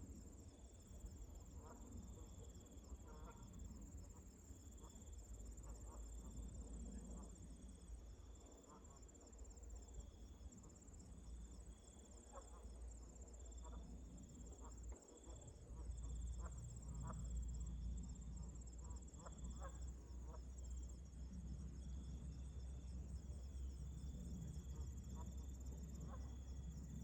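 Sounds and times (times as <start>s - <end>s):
pulsed insect trills: 0.2s - 27.0s.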